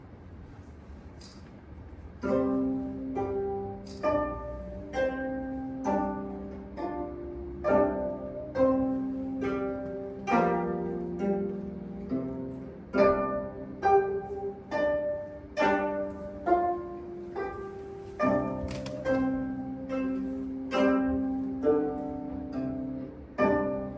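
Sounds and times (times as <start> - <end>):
held bowed string notes: 2.2 - 23.9
plucked string notes: 2.2 - 23.9.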